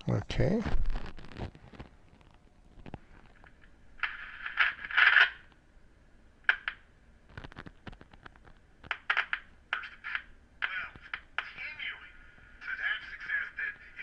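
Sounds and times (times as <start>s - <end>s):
radio speaker crackling: 0.0s - 5.7s, 6.3s - 14.0s.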